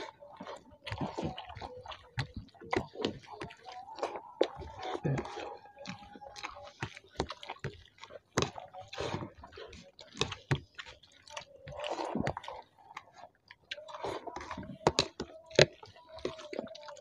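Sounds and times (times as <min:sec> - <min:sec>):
fingers squishing rice: 0:00.0 - 0:17.0
wet chewing and lip-smacking: 0:00.0 - 0:17.0.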